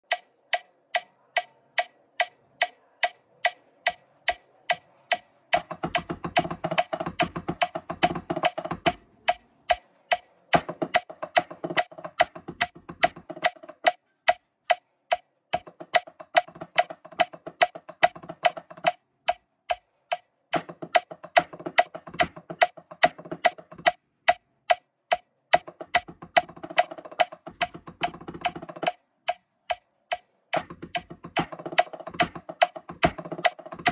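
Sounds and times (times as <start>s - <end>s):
metronome clicking: 0.0s - 33.9s
sticks on practice pads: 0.0s - 33.9s.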